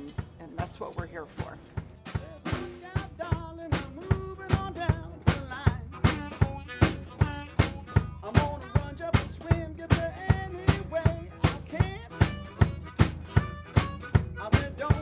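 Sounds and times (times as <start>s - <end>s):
acoustic guitar: 0.0s - 15.0s
drum kit beat: 0.0s - 15.0s
harmonica: 1.8s - 15.0s.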